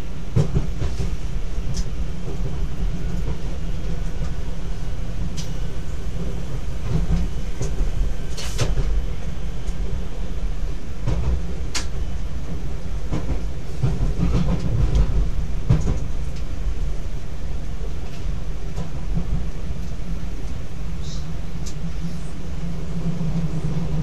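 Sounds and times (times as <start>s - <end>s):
train running gear rumble: 0.0s - 24.0s.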